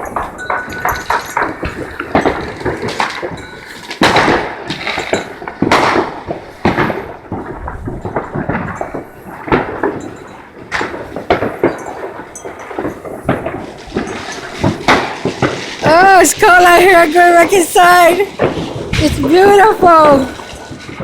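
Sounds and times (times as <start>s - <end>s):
fireworks exploding with echo: 0.0s - 21.0s.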